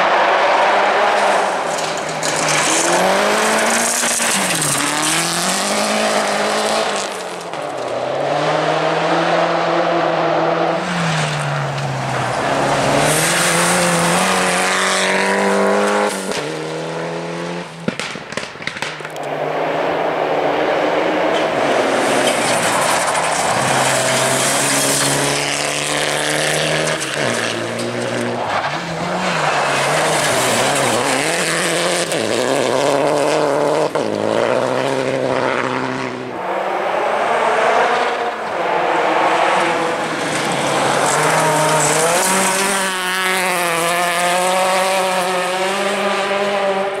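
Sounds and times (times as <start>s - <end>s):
rally car engine revving: 0.0s - 18.1s, 19.1s - 47.0s.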